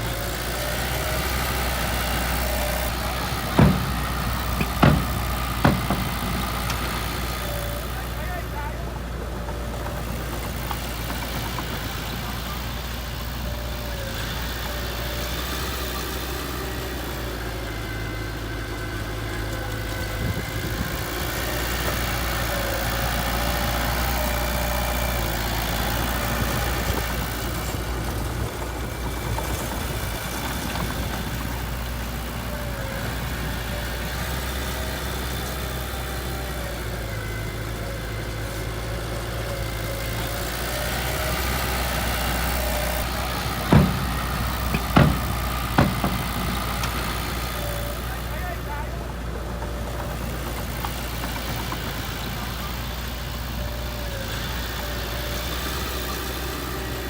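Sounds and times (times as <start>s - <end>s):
diesel engine idling low: 0.0s - 57.0s.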